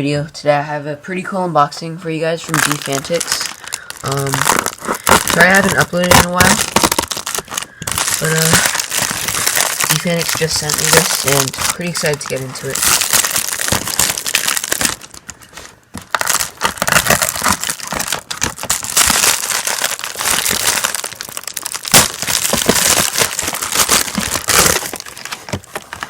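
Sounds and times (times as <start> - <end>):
packaging crinkling: 2.4 - 26.0.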